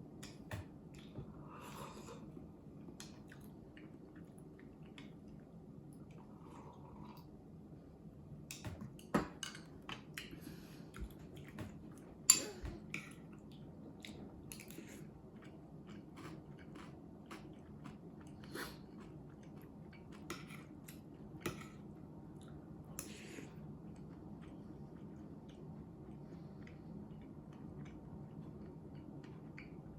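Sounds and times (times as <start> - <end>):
quiet chewing: 0.2 - 7.4, 9.8 - 29.9.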